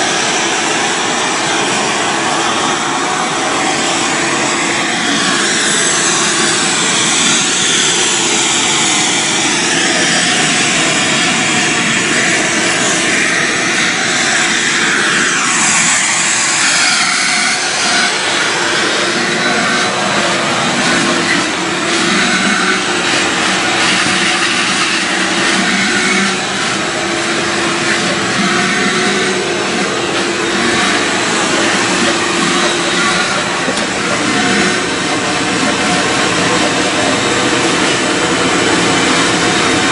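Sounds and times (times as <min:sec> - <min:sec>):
shop vacuum sucking debris: 0:00.0 - 0:39.9.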